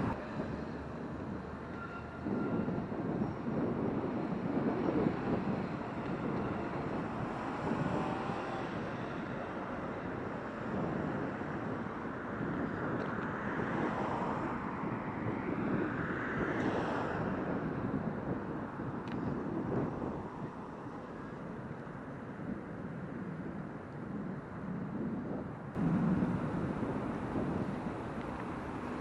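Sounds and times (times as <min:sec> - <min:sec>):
cars going by: 0:00.0 - 0:22.3, 0:25.7 - 0:29.0
wind on microphone: 0:00.0 - 0:29.0.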